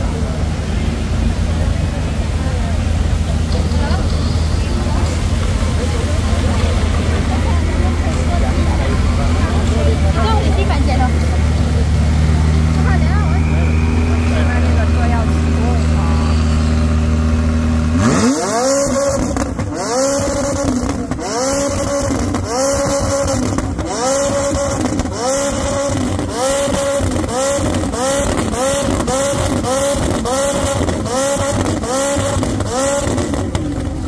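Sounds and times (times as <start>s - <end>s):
vehicle engine revving: 0.0s - 34.0s.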